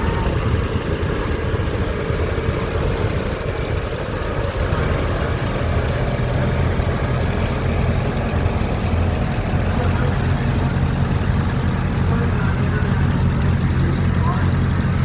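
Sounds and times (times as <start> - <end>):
tractor engines droning: 0.0 - 15.0.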